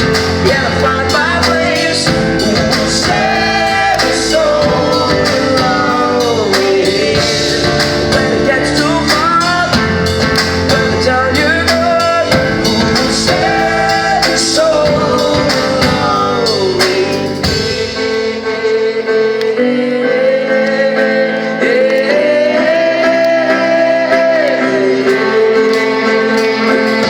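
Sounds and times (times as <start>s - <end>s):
guitar: 0.0s - 27.0s
live pop-soul band: 0.0s - 27.0s
wordless singing: 0.0s - 27.0s.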